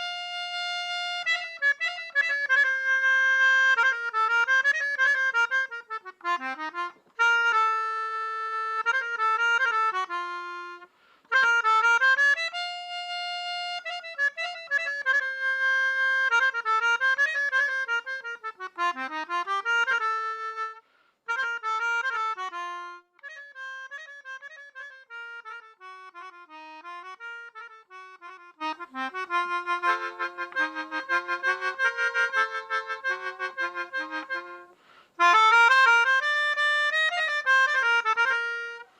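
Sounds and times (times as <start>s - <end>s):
accordion melody: 0.0s - 38.9s.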